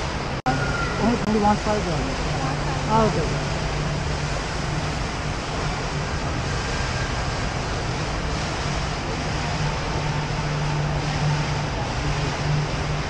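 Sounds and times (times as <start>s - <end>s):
indoor mall ambience rushing: 0.0s - 13.0s
low steady hum: 0.0s - 13.0s.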